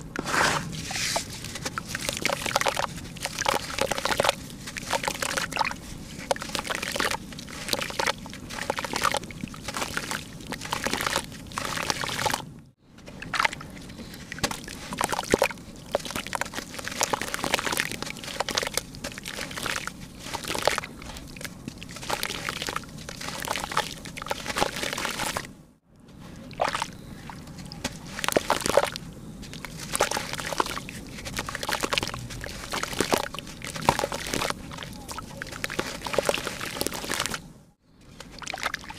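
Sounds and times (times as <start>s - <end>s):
wet dirt splashing into water: 0.3s - 12.5s, 13.2s - 25.5s, 26.4s - 37.4s, 38.2s - 38.9s.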